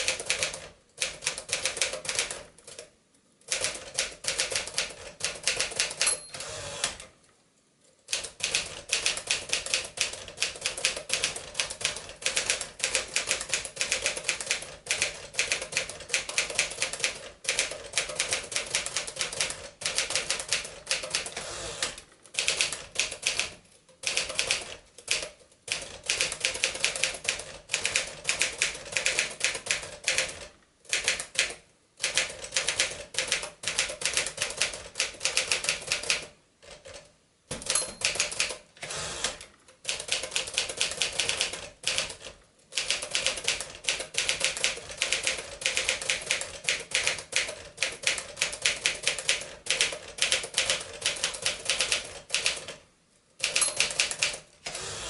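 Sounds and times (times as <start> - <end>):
typewriter keystrokes clattering: 0.0 - 2.9, 3.5 - 6.4, 8.1 - 38.6, 39.7 - 52.8, 53.4 - 54.5.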